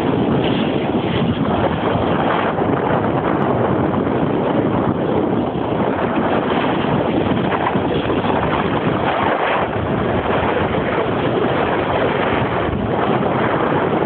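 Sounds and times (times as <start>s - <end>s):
wind on microphone: 0.0s - 14.0s
snowboard scraping snow: 0.1s - 13.7s.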